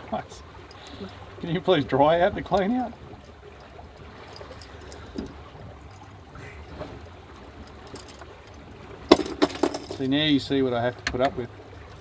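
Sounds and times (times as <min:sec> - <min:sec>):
water trickling along boat hull: 0:00.0 - 0:12.0.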